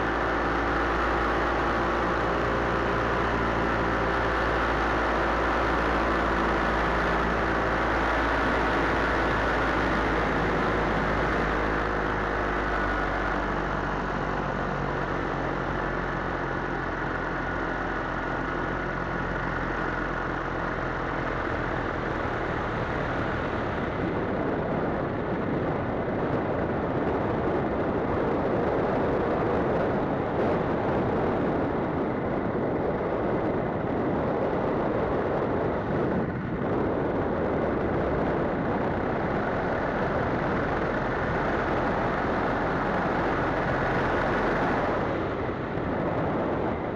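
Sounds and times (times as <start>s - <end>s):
paramotor engine and propeller: 0.0s - 46.9s.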